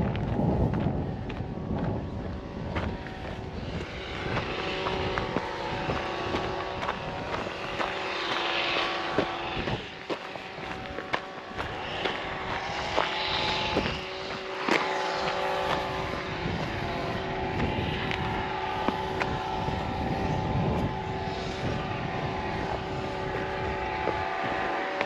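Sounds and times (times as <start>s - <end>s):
footsteps crunching on stony path: 0.0s - 25.0s
multi-tone droning hum: 0.0s - 25.0s
wind buffeting microphone: 0.0s - 25.0s.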